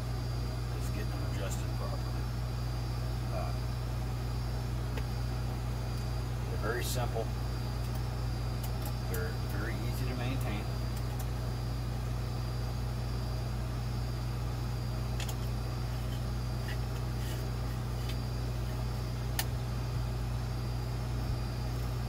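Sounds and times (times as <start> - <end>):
low electric hum: 0.0 - 22.0.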